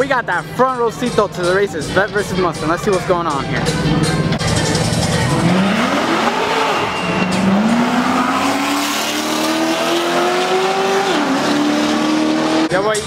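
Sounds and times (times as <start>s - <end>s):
race car engines accelerating: 1.8s - 12.8s.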